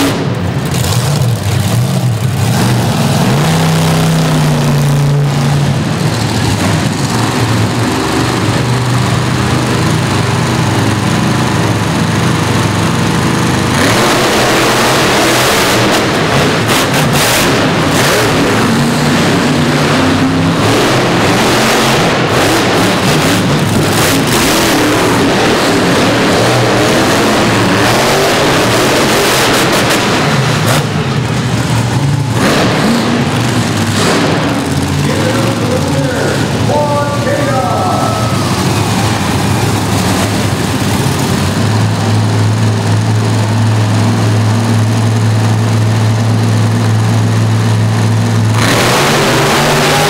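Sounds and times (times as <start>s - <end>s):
monster truck engines revving: 0.0s - 50.0s.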